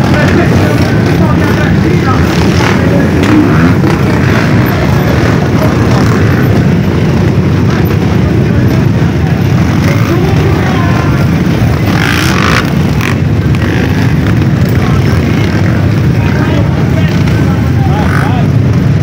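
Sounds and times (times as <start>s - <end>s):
many dirt bike engines rumbling: 0.0s - 19.0s.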